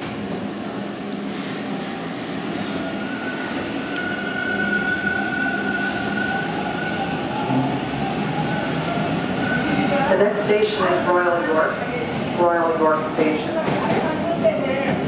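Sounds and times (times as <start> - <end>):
subway traction motors whining: 0.0 - 15.0.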